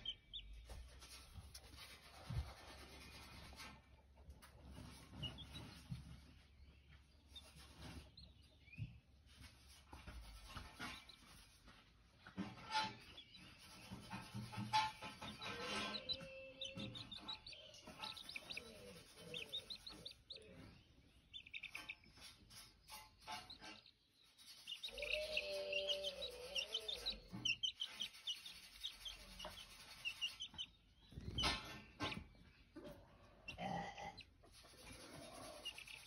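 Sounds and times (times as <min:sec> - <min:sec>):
baby chick peeping: 0:00.0 - 0:36.0.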